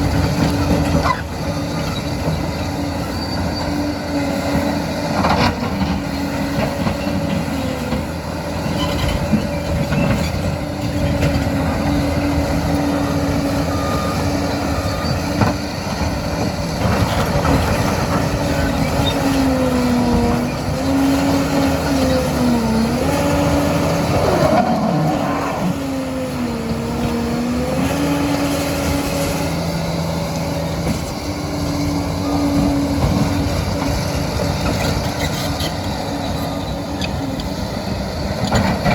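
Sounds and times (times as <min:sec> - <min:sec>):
dozer diesel engine running: 0:00.0 - 0:38.9.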